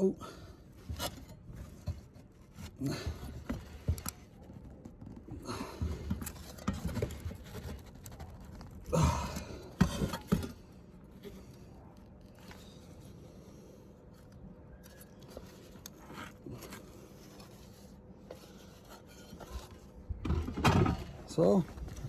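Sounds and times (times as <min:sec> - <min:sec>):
handling scrapes clicks and knocks: 0:00.0 - 0:22.0.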